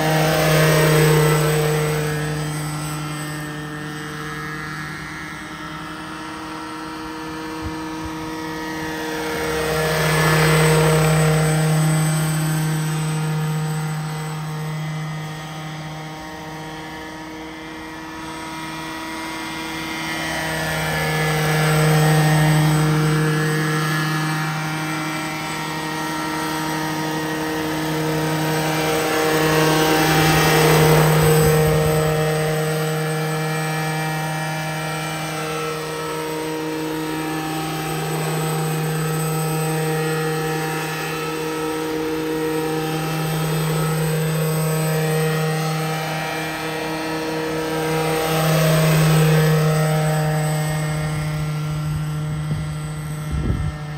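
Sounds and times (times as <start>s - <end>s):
model helicopter engine and rotors: 0.0s - 53.9s.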